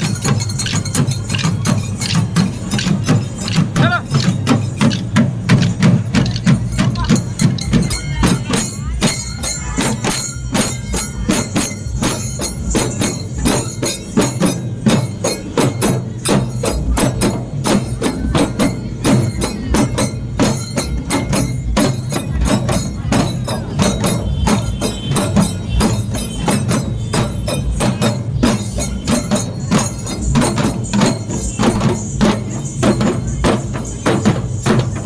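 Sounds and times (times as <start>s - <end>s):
fast procession drumming: 0.0s - 35.0s.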